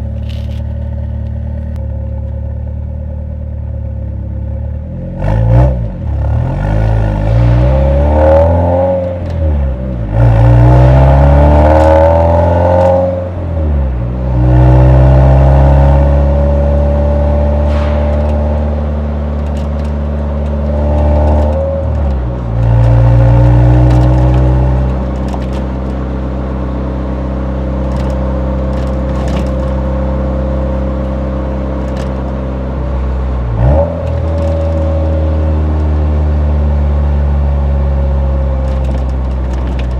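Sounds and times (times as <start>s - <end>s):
car engine revving and cruising: 4.8s - 39.9s.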